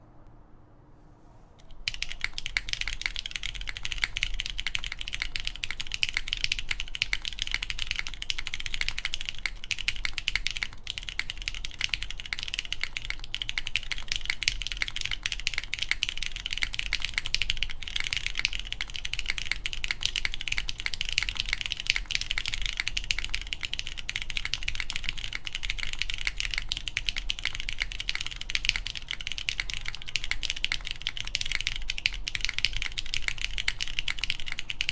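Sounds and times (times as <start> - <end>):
mechanical keyboard typing: 1.6 - 34.9.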